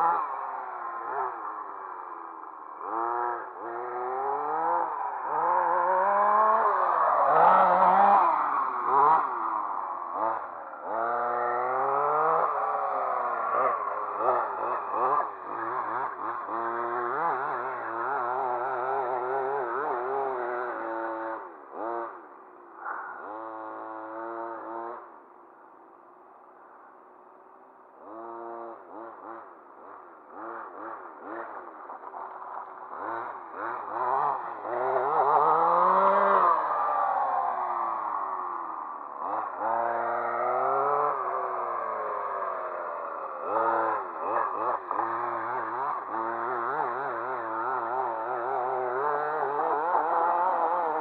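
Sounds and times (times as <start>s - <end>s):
small engine revving: 0.0s - 51.0s.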